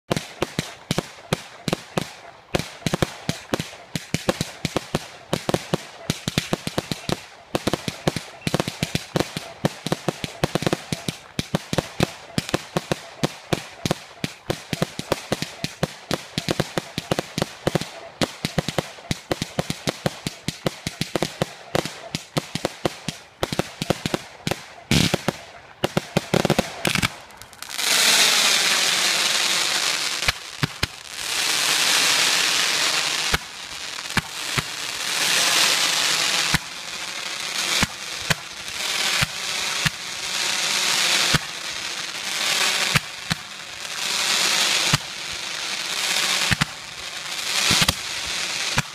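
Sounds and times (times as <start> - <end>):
fireworks bangs: 0.1 - 48.9.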